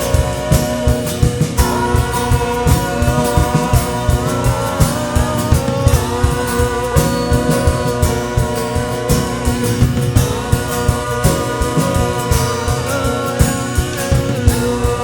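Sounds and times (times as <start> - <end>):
drum kit beat: 0.0 - 15.0
guitar: 0.0 - 15.0
worship band playing: 0.0 - 15.0.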